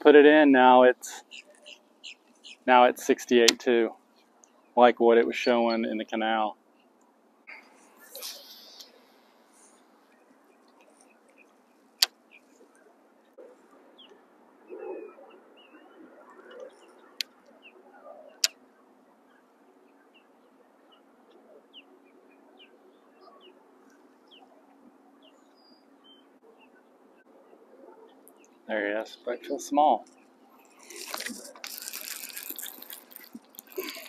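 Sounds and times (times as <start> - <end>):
birds chirping faintly: 0.0 - 34.0.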